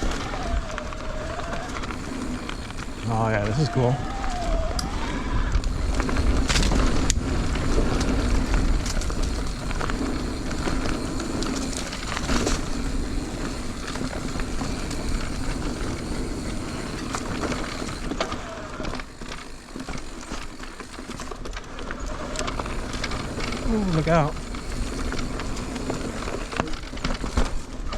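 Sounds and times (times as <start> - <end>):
bike rattling: 0.0 - 27.9
bike tyres rumbling on dirt: 0.0 - 27.9.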